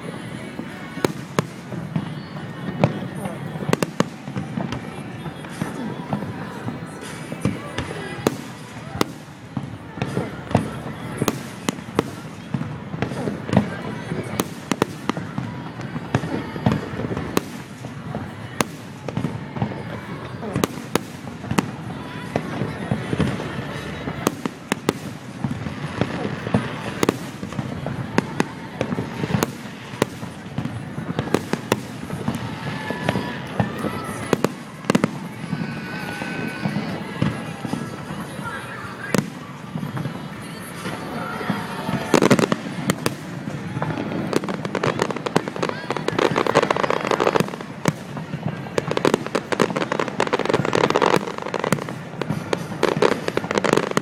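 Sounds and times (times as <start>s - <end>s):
fireworks bangs and cracks: 0.0s - 54.0s.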